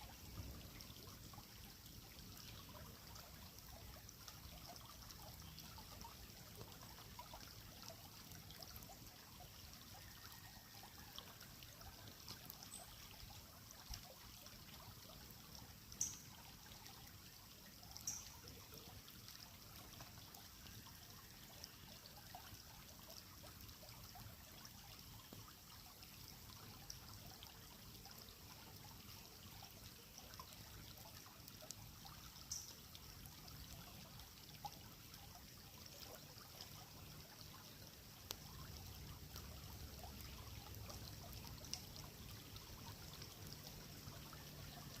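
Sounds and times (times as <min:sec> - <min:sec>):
creek water trickling: 0:00.0 - 0:45.0.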